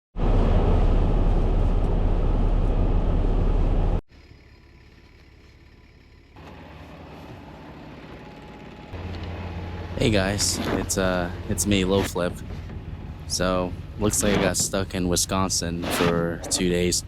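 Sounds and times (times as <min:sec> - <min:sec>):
truck engine rumbling: 0:00.2 - 0:17.0.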